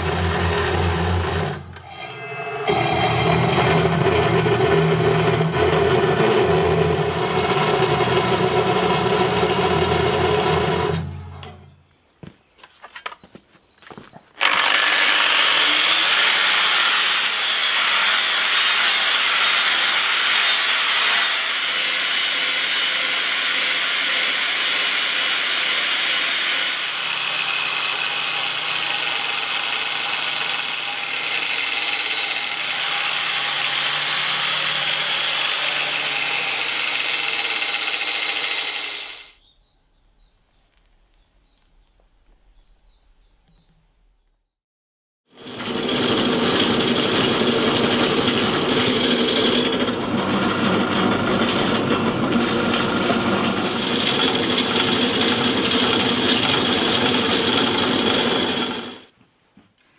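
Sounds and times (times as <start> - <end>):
belt grinder sanding steel: 0.0 - 11.4, 14.4 - 39.4, 45.3 - 59.1
angle grinder grinding steel: 0.0 - 11.7, 14.4 - 39.4, 45.3 - 59.1.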